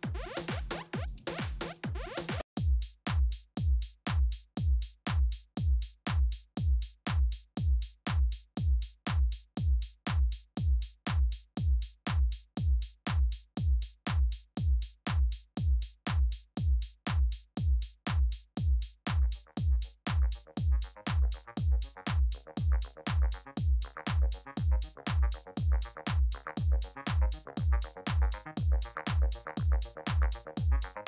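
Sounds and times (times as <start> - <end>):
electronic music with deep kick drum: 0.0 - 31.0.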